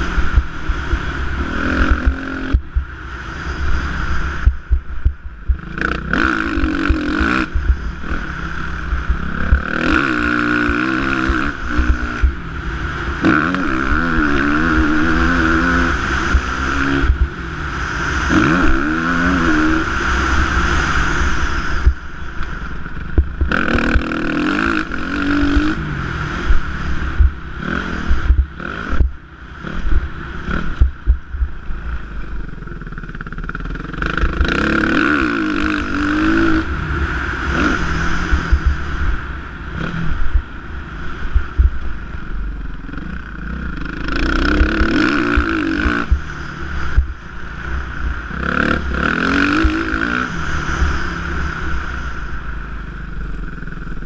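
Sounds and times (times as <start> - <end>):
wind buffeting microphone: 0.0 - 13.3, 14.0 - 32.8, 35.6 - 53.8
motocross bike engine revving: 0.0 - 54.0.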